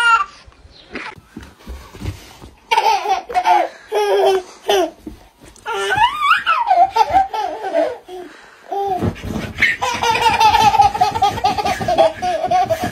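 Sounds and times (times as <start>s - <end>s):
toddler laughing: 0.0s - 0.4s, 2.7s - 12.9s.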